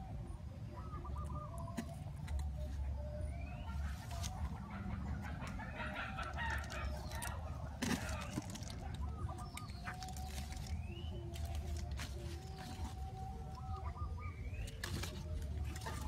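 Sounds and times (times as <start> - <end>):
steady low rumble: 0.0 - 16.0
chicken clucking: 0.7 - 16.0.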